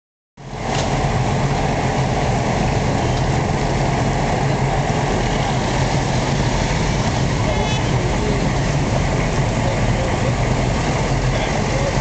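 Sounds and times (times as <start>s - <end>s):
diesel engine idling: 0.4s - 12.0s.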